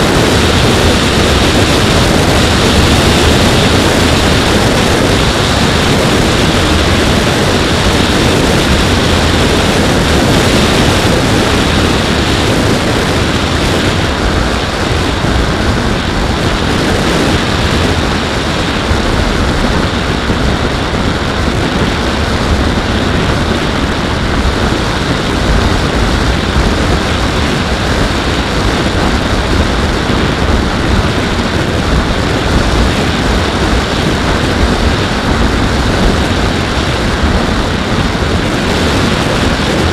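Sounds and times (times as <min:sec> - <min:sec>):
electric motor and propeller hum: 0:00.0 - 0:39.9
wind buffeting microphone: 0:00.0 - 0:39.9.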